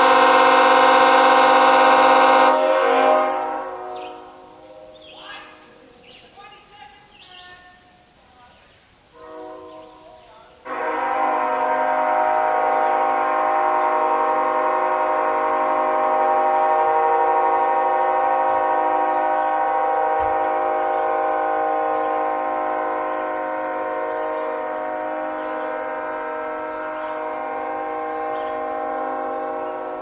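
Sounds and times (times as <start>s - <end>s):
locomotive air horn blast: 0.0s - 5.0s, 9.1s - 30.0s.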